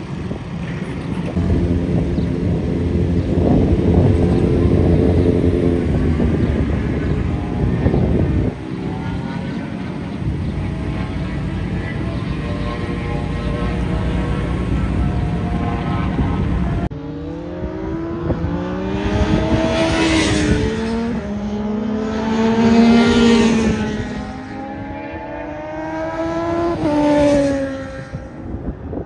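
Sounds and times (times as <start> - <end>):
motorcycles accelerating: 0.0 - 29.0.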